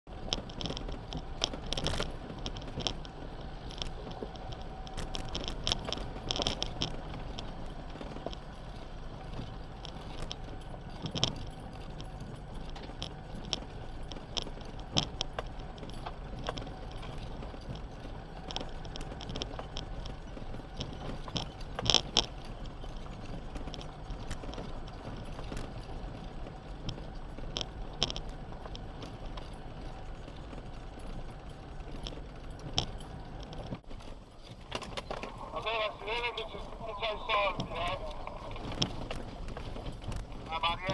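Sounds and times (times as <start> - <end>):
vehicle engine running: 0.1 - 40.9.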